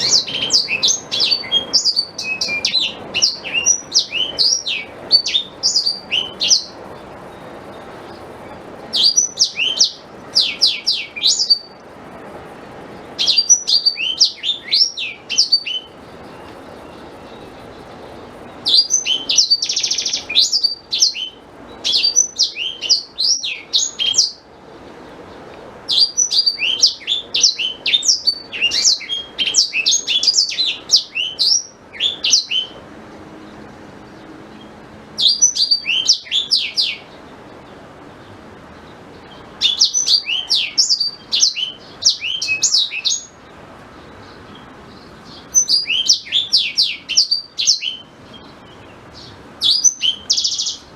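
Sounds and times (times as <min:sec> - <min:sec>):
canary singing: 0:00.0 - 0:11.9, 0:12.7 - 0:50.9.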